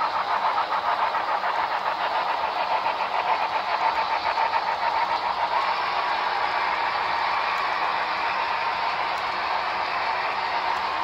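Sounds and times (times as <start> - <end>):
model locomotive engine chugging: 0.0 - 11.0.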